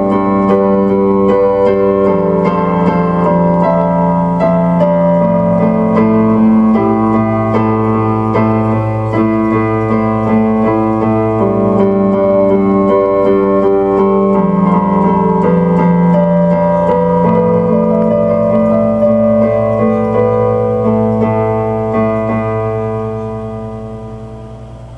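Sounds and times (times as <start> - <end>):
slow keyboard chords: 0.0 - 24.9.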